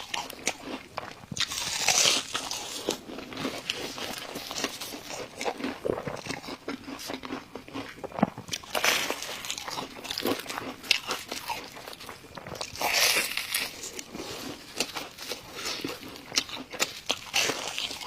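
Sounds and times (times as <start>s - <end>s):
food crunching while chewed: 0.0s - 18.0s.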